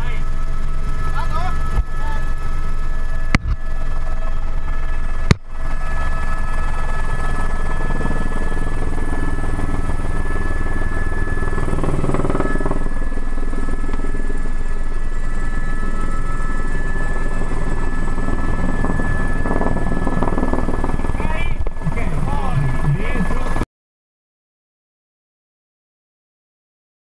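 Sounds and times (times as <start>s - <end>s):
helicopter rotor rumble: 0.0s - 23.6s
turbine whine: 0.0s - 23.6s.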